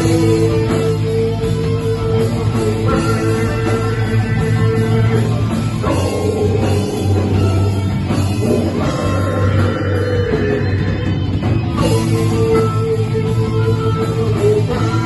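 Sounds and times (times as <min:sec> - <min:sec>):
bass guitar: 0:00.0 - 0:15.0
drum kit: 0:00.0 - 0:15.0
electric guitars: 0:00.0 - 0:15.0
person singing: 0:00.0 - 0:15.0.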